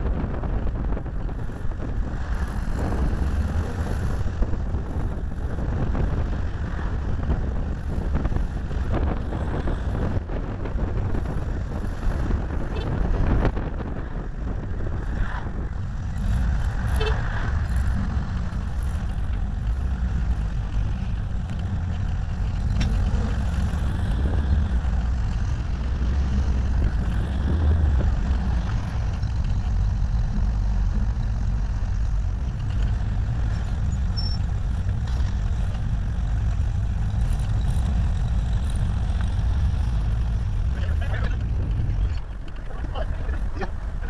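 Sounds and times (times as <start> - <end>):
car engine rumbling: 0.0 - 44.0
wind and road noise: 0.0 - 44.0.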